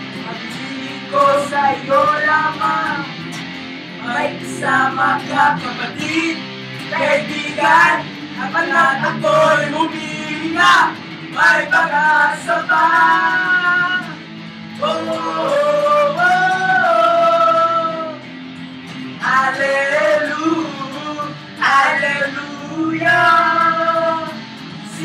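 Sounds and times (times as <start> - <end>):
strummed electric guitars: 0.0 - 25.0
person singing loudly: 0.2 - 3.1, 4.0 - 14.2, 14.8 - 18.2, 19.2 - 25.0.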